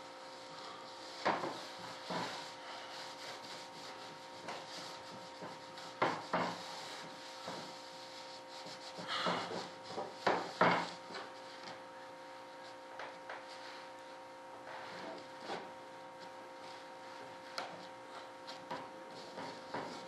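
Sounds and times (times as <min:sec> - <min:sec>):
faint electrical hum: 0:00.0 - 0:20.0
hand scraping a workpiece: 0:00.5 - 0:11.8, 0:14.6 - 0:20.0.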